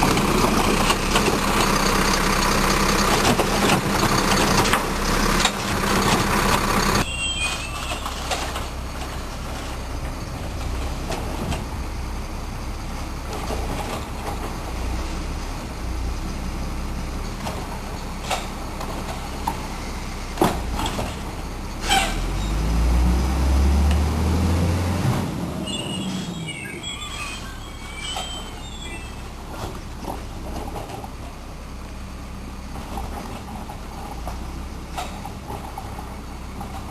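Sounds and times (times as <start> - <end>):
garbage truck engine revving: 0.0 - 32.1.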